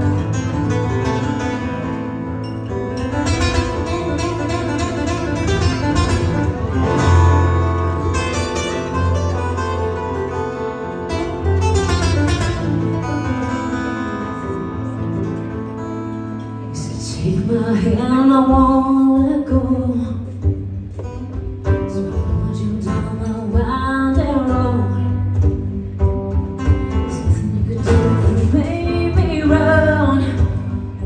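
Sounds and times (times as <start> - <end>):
acoustic guitars strummed and picked: 0.0 - 31.0.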